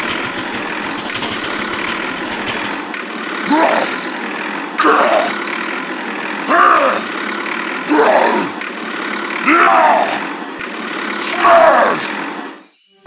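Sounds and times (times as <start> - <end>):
motor revving: 0.0 - 12.7.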